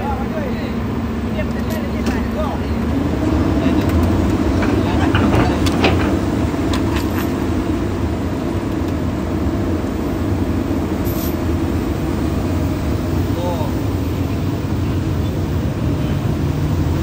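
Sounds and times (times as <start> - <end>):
excavator diesel engines humming: 0.0 - 17.0.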